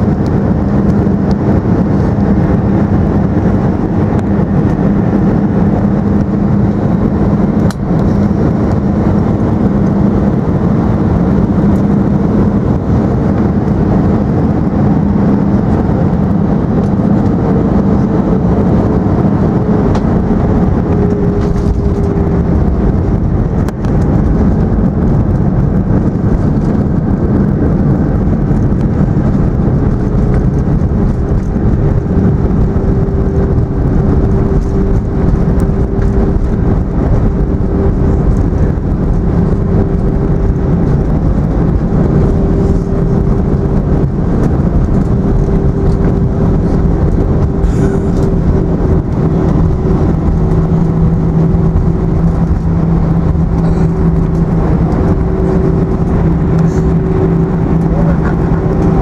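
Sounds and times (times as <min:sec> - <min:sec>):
constant hum: 0:00.0 - 0:59.0
engines and runway rumble: 0:00.0 - 0:59.0
lower hum: 0:00.0 - 0:59.0.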